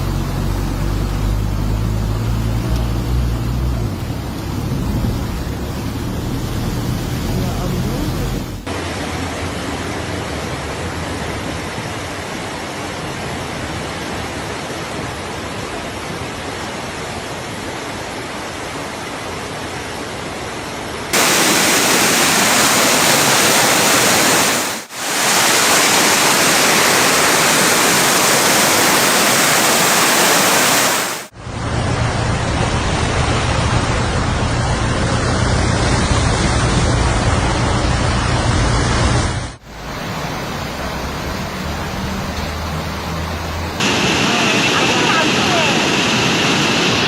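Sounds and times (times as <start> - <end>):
floodwater rushing: 0.0 - 47.0.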